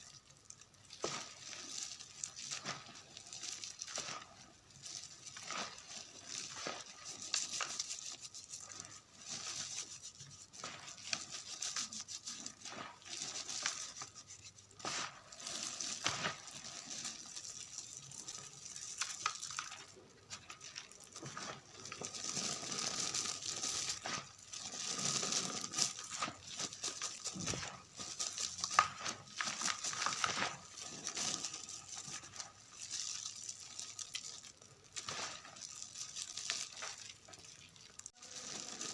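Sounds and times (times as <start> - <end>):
chalk crumbling and crunching: 0.0 - 38.9.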